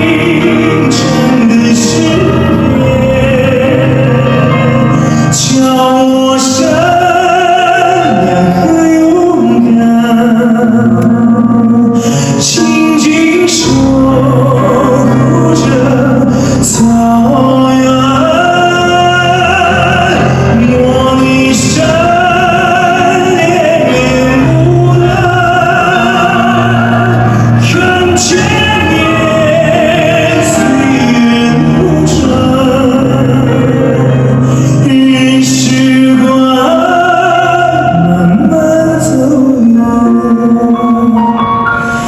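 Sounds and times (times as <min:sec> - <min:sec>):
man singing with vibrato: 0:00.0 - 0:42.0.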